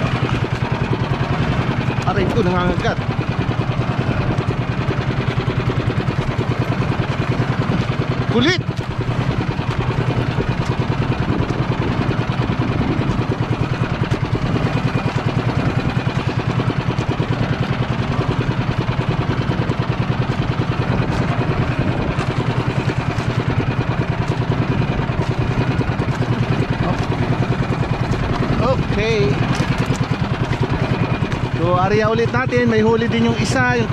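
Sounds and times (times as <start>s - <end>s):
small engine running: 0.0s - 33.9s.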